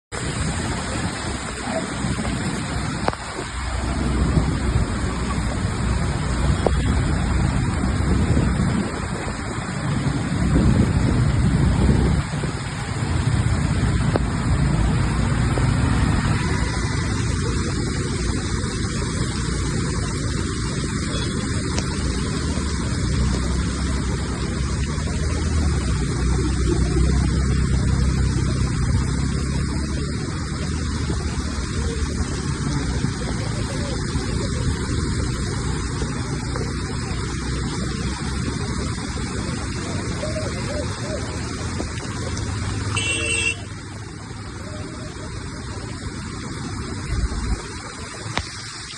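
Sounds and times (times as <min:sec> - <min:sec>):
steady rain falling: 0:00.1 - 0:48.9.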